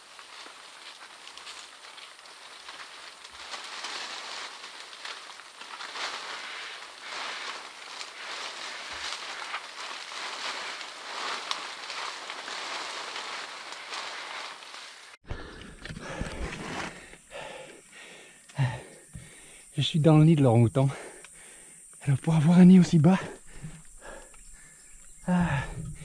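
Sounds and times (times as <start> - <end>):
leaves and branches rustling: 0.0 - 26.0.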